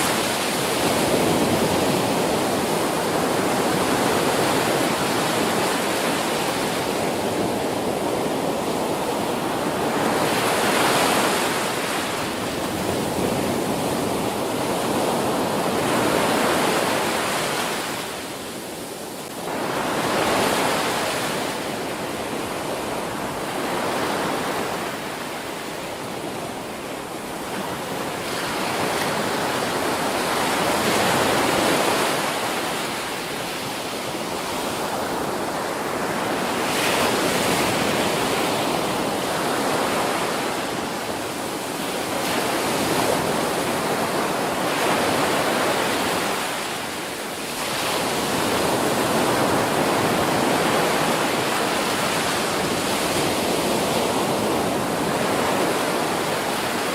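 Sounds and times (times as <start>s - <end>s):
ocean surf breaking on beach: 0.0s - 56.9s.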